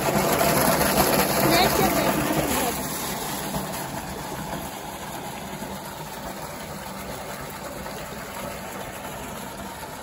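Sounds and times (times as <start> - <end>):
water pouring into tank: 0.0 - 10.0.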